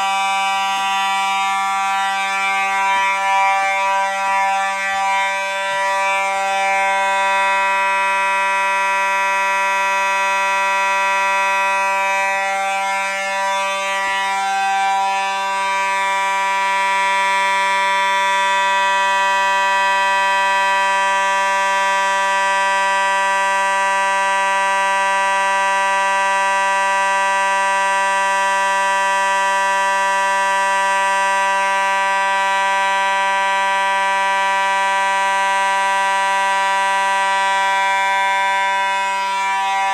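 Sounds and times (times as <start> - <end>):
fire alarm horn buzzing: 0.0 - 39.9.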